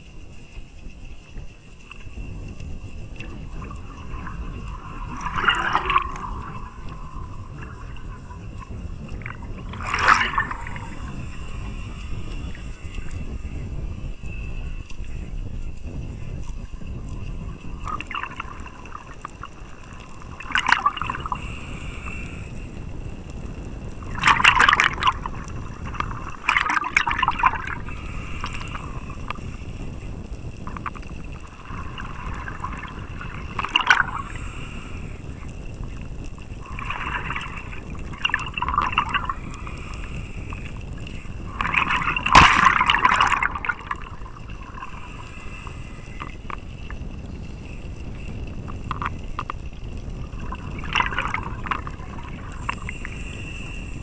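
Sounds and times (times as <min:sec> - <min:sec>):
scuba regulator bubbles: 0:00.0 - 0:54.0
underwater current rush: 0:00.0 - 0:54.0.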